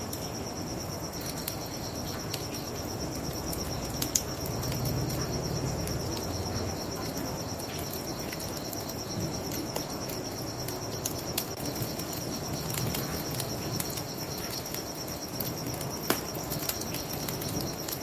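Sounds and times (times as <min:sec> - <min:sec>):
crickets chirping: 0:00.0 - 0:18.0
wood fire crackling: 0:00.0 - 0:18.0.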